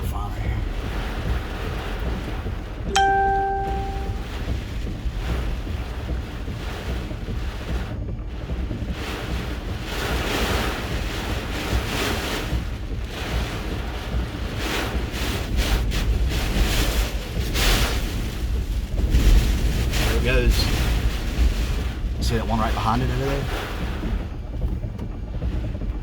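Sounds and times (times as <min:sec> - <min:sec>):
strong wind gusting against vehicle: 0:00.0 - 0:26.0
wind rumble on microphone: 0:00.0 - 0:26.0.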